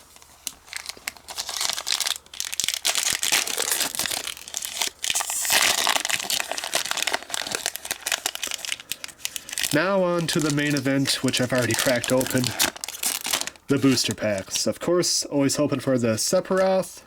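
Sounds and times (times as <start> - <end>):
packaging crinkling and rustling: 0.0 - 14.7.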